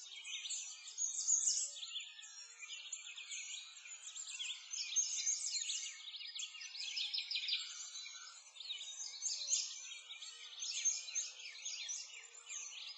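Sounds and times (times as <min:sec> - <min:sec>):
small birds chirping and singing: 0:00.0 - 0:12.9.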